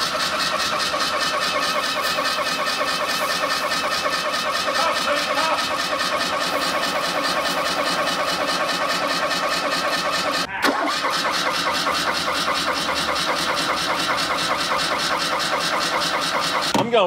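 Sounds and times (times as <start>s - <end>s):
car engine cranking without starting: 0.0s - 17.0s.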